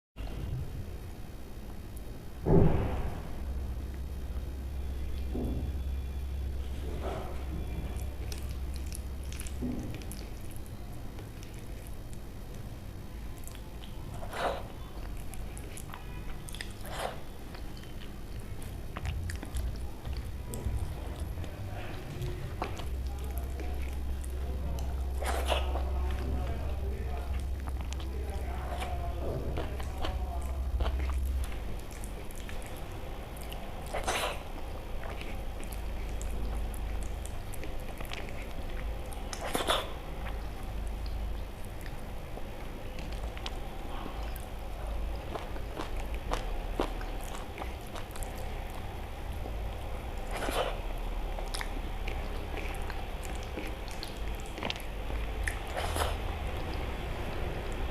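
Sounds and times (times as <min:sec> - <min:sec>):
person chewing: 0:03.8 - 0:57.9
smacking or slurping: 0:06.8 - 0:12.7, 0:13.3 - 0:57.9.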